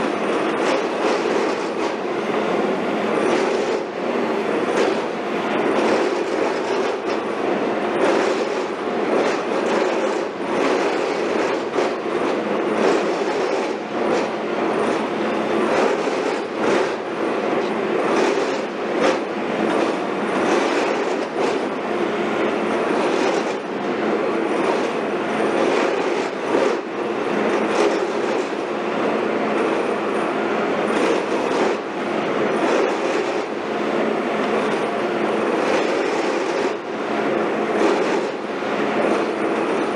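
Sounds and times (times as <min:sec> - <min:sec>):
heavy machinery metallic rattling: 0:00.0 - 0:39.9.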